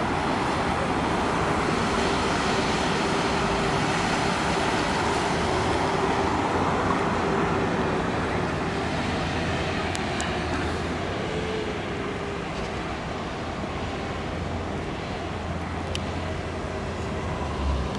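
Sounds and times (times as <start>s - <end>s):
crane mechanical drone: 0.0s - 17.9s
road traffic noise: 0.0s - 17.9s.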